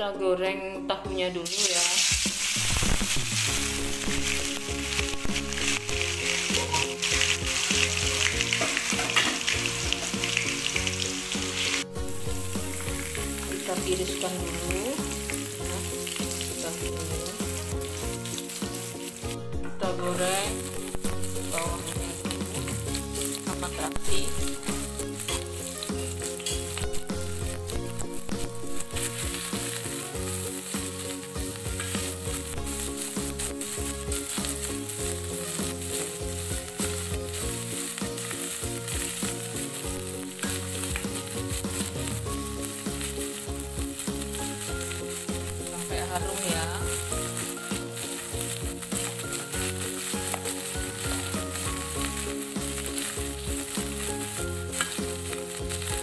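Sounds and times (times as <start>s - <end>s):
food sizzling in hot oil: 1.4s - 56.0s
spatula stirring in pan: 1.6s - 19.3s, 20.5s - 56.0s.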